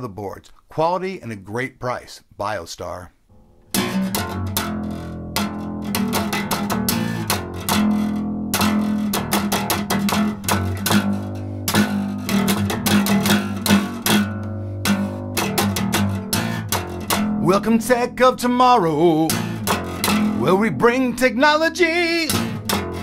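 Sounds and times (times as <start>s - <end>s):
acoustic bass guitar riff: 3.3s - 23.0s.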